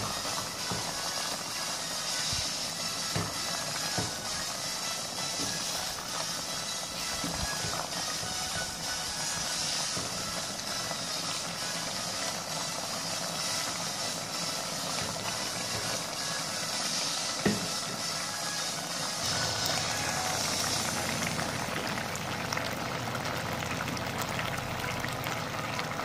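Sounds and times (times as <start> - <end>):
stew sizzling in a metal pot: 0.0 - 26.0.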